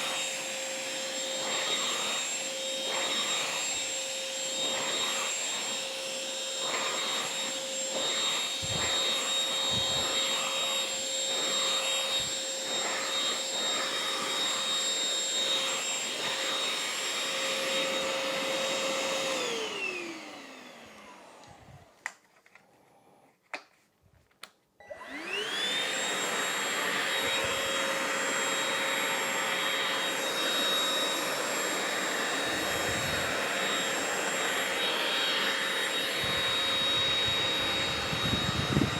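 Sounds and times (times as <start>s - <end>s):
handheld vacuum whining: 0.0s - 23.2s, 24.8s - 38.9s.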